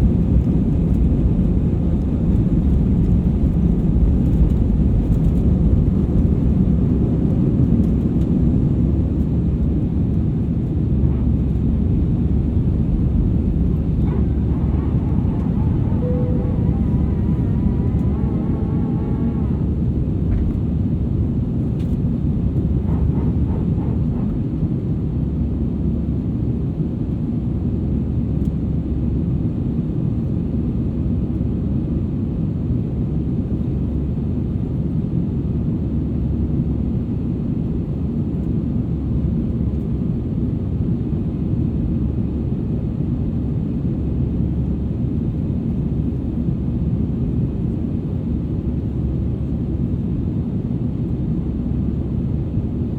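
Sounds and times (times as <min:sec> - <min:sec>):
jet airliner cabin rumble: 0:00.0 - 0:52.9.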